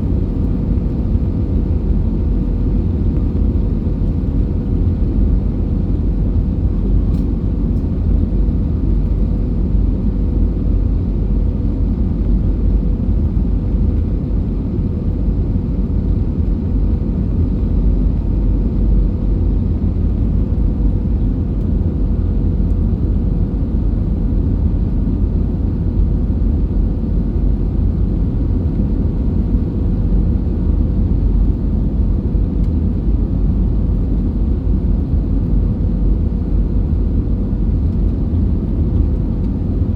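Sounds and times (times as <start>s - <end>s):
jet engines roaring in flight: 0.0s - 39.9s.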